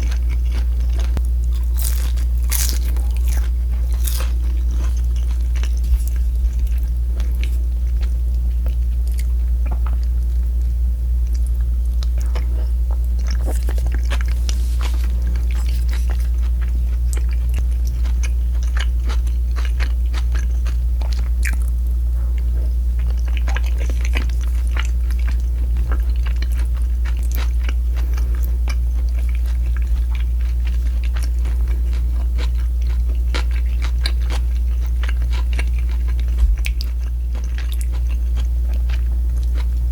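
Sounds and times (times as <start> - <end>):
low hum: 0.0 - 39.9
person chewing crunchy food: 0.0 - 39.9.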